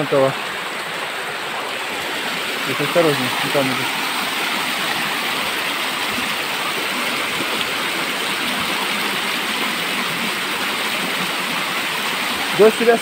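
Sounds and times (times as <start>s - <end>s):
river splashing over rocks: 0.0s - 13.0s.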